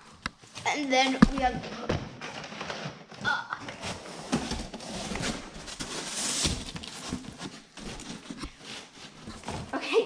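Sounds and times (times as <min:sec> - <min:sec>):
cardboard boxes being handled: 0:00.4 - 0:10.0
scraping rustle of cardboard: 0:01.7 - 0:10.0.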